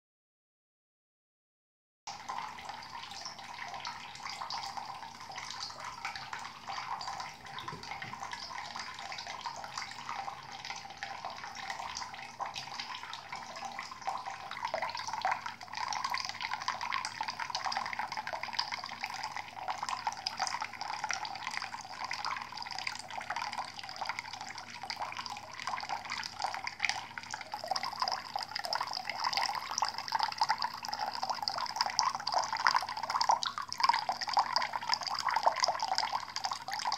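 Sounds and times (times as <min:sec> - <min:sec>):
tap water trickling into sink: 0:02.1 - 0:36.9.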